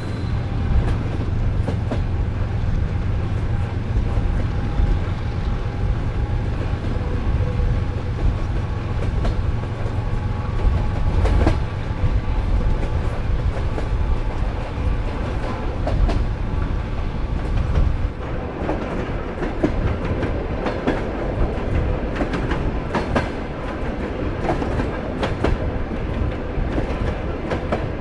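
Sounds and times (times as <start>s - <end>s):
train rumbling on rails: 0.0s - 28.0s
wheel clatter over rail joints: 0.0s - 28.0s.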